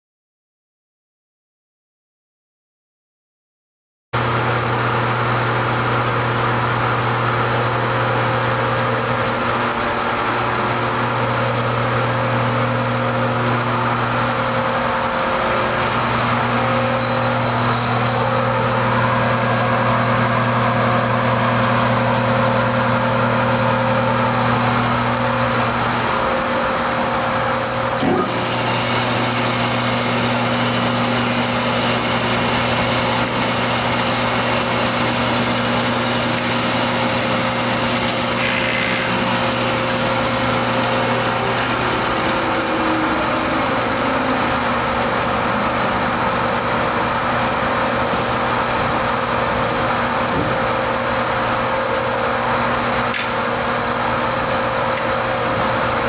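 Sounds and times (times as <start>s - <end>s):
mixer motor humming: 4.2s - 56.0s.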